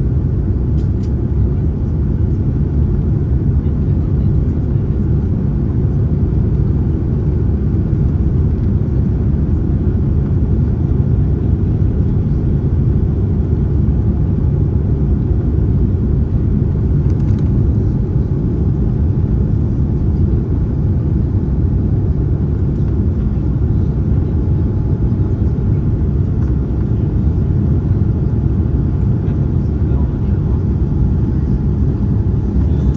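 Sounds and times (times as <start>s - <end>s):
airliner cabin engine rumble: 0.0s - 32.9s.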